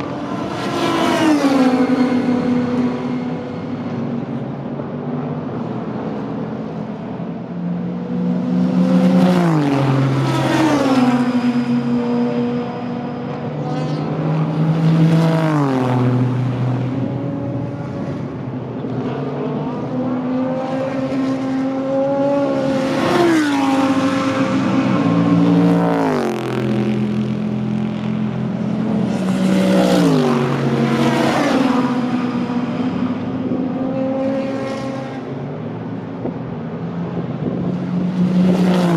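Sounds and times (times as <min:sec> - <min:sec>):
race cars passing: 0:00.0 - 0:38.9.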